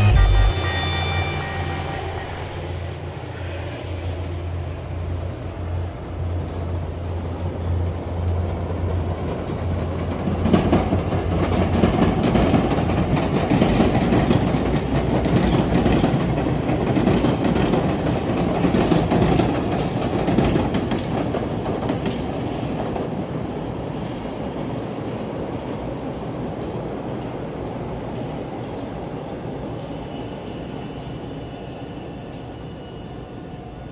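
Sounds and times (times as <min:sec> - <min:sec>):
train low hum: 0:00.0 - 0:33.9
train rumble and wheel clatter: 0:00.0 - 0:33.9.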